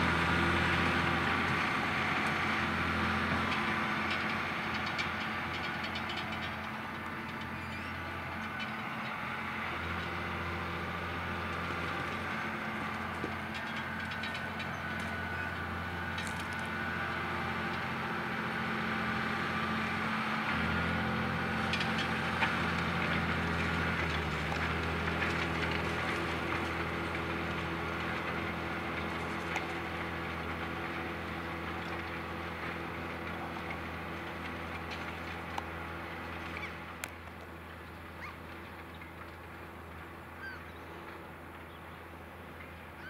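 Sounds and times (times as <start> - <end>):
tractor diesel engine under load: 0.0 - 40.4.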